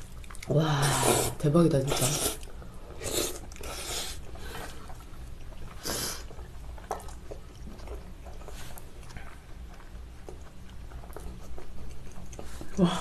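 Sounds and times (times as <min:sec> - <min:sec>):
chewing: 0:00.0 - 0:01.3, 0:01.9 - 0:13.0
noodles slurped: 0:00.0 - 0:13.0.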